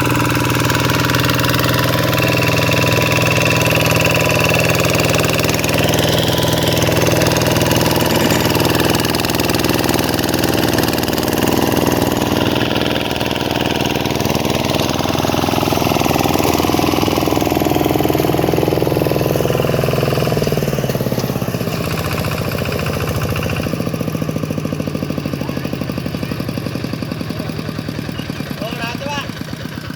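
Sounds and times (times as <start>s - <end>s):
diesel engine knocking: 0.0s - 29.9s.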